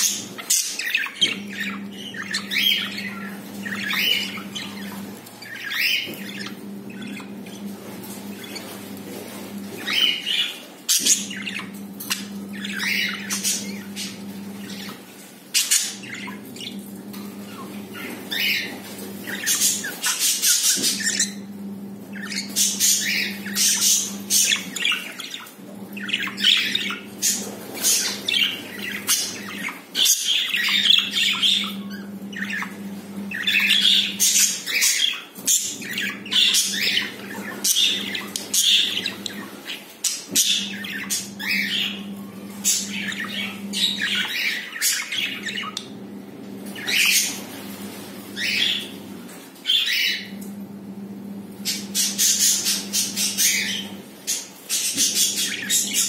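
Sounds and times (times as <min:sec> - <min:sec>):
budgies chirping and squawking: 0:00.0 - 0:56.0.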